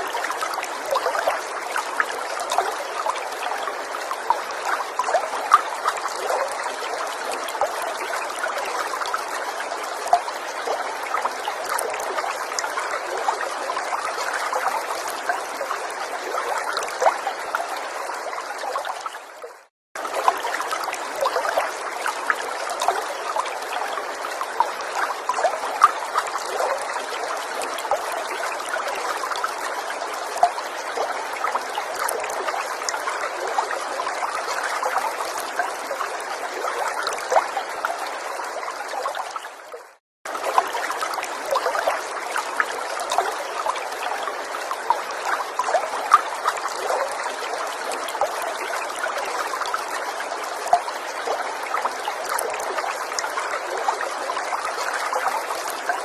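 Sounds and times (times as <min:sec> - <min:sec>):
stream trickling and splashing: 0:00.0 - 0:56.0.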